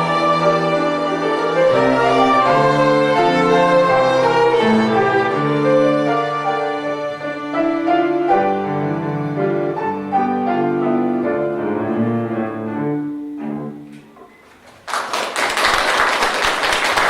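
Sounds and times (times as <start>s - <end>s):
bowed string instrument: 0.0s - 14.3s
piano: 0.0s - 17.0s.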